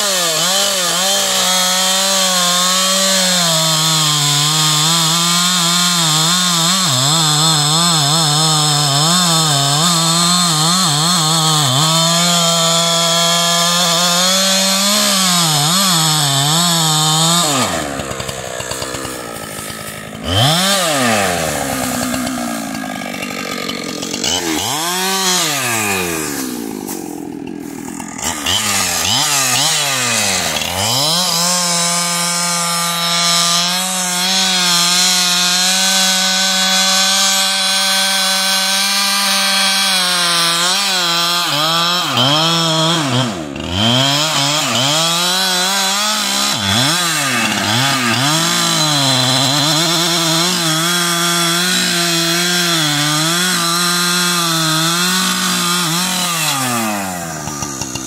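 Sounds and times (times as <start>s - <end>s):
chainsaw cutting tree trunks: 0.0s - 58.0s.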